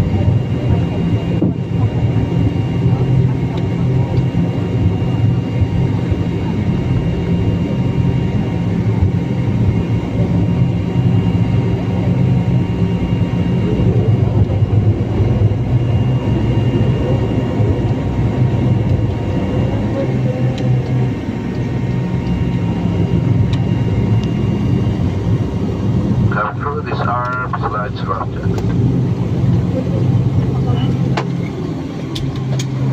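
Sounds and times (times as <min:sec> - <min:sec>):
jet engines idling: 0:00.0 - 0:32.9.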